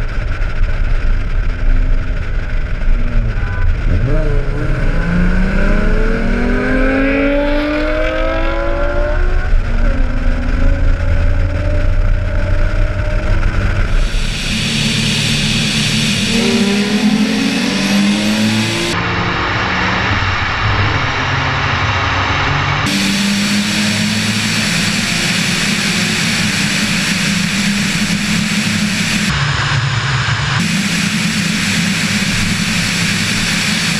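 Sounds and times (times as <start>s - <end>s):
car engine accelerating: 0.0s - 33.9s
loud low rumble: 0.0s - 33.9s
wind and road roar: 0.0s - 33.9s.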